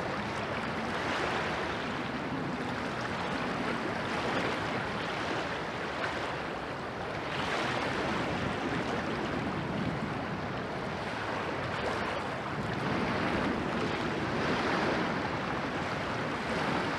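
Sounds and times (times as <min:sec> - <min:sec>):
waves washing against bank: 0:00.0 - 0:16.9
wind: 0:00.0 - 0:16.9.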